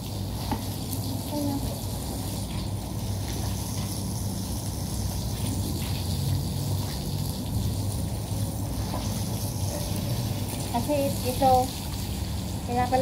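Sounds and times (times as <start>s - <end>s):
hose water splashing on carpet: 0.0s - 13.0s.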